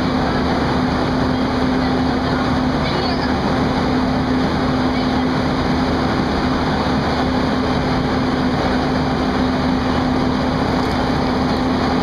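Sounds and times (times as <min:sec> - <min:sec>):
steady humming tone: 0:00.0 - 0:12.0.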